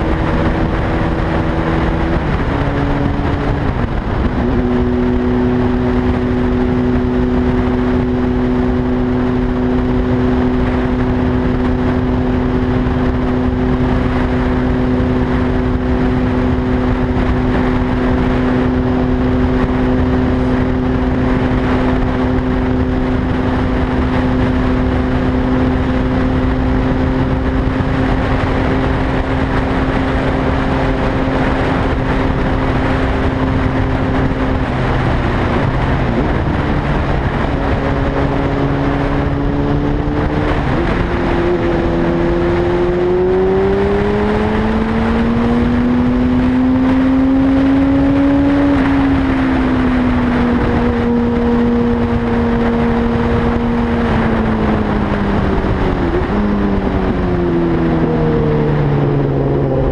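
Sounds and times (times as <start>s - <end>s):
vehicle engine droning: 0.0s - 59.9s.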